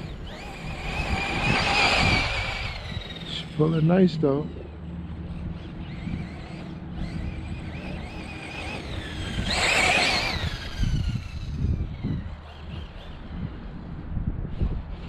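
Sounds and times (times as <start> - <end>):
tyres on dirt: 0.0 - 14.0
electric motor whining: 0.0 - 15.0
wind rumble on microphone: 0.0 - 15.0.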